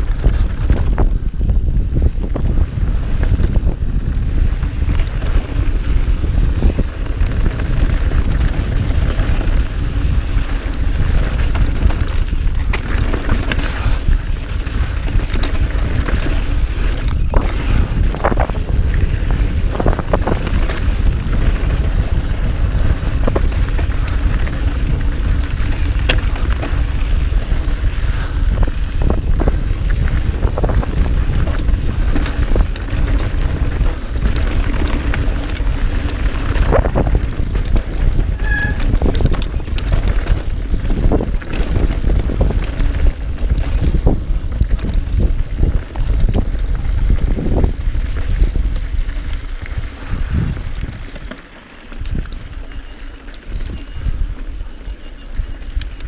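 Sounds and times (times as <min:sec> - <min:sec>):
bike rattling and clicking: 0:00.0 - 0:56.0
wind buffeting microphone: 0:00.0 - 0:56.0.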